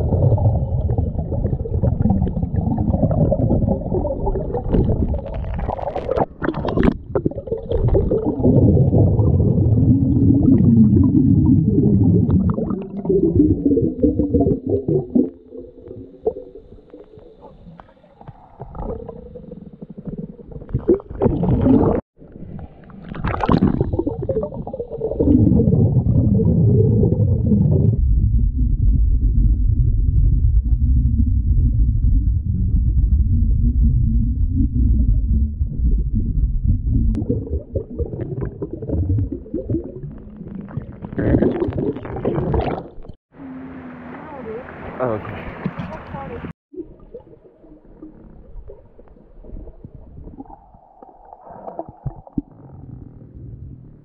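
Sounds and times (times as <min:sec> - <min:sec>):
underwater rumbling and gurgling: 0:00.0 - 0:54.0.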